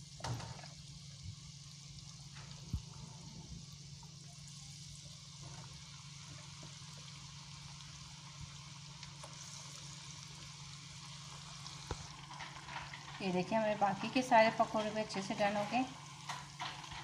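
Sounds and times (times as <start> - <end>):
food deep-frying in oil: 0.0 - 17.0
low steady hum: 0.0 - 17.0.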